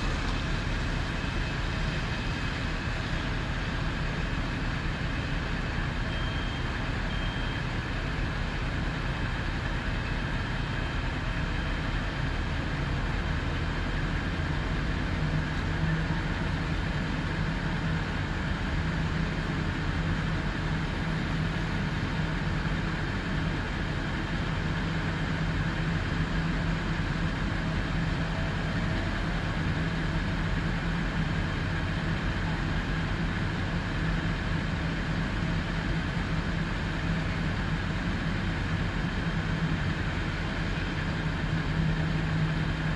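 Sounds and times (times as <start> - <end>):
fire engines running: 0.0 - 42.9.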